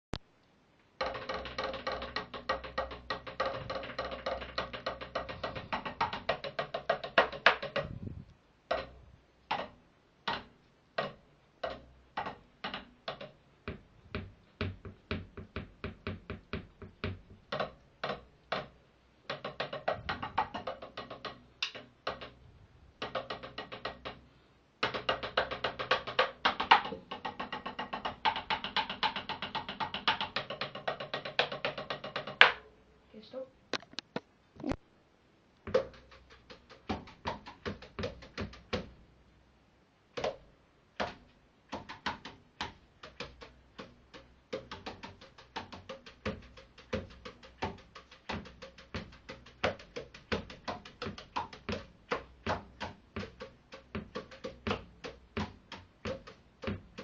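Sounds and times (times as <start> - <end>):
practice drum pad strikes: 1.0 - 22.4, 23.0 - 24.2, 24.8 - 32.6, 35.6 - 39.0, 40.2 - 57.0.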